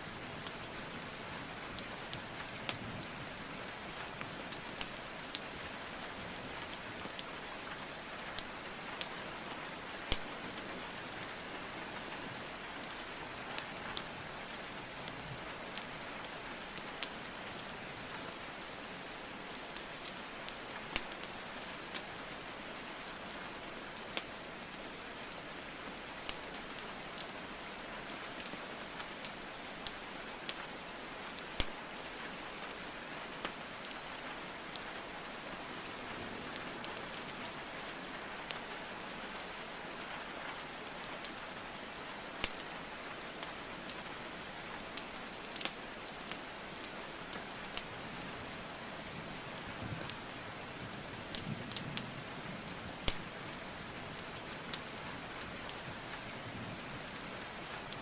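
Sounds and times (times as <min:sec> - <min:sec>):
steady rain hiss: 0:00.0 - 0:58.0
wood fire crackling: 0:00.4 - 0:58.0.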